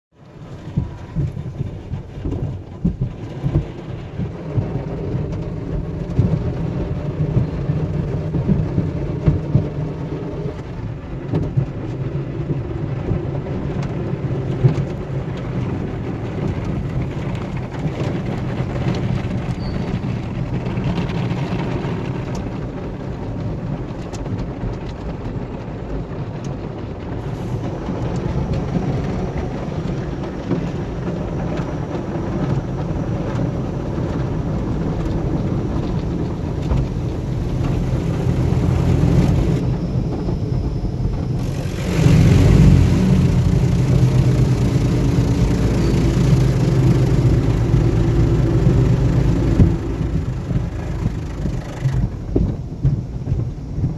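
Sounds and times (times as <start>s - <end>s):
muffled rumble with thumps: 0.2s - 53.9s
water spray on car: 0.3s - 53.9s.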